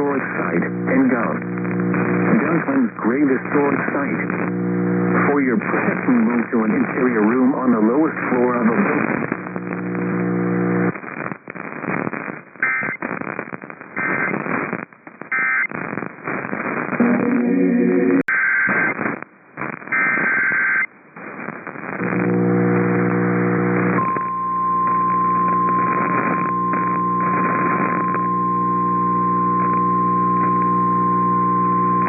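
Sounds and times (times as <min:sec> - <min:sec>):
crackling radio static: 0:00.0 - 0:32.0.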